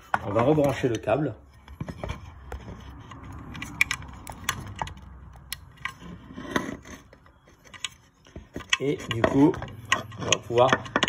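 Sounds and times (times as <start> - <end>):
hands handling plastic parts: 0.0 - 11.0.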